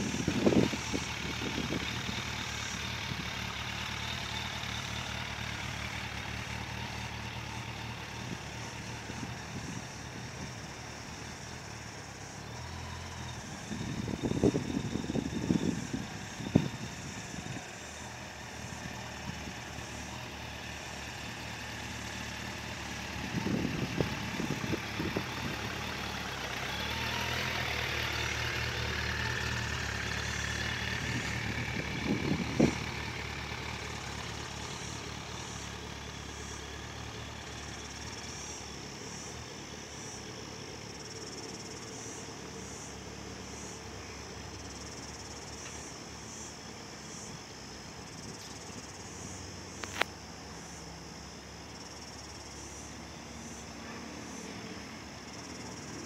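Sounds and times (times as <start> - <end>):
motorcycle engine running at low speed: 0.0 - 56.0.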